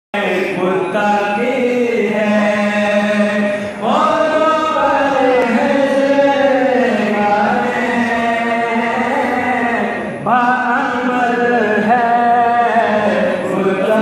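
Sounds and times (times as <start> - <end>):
man chanting through microphones: 0.2 - 14.0.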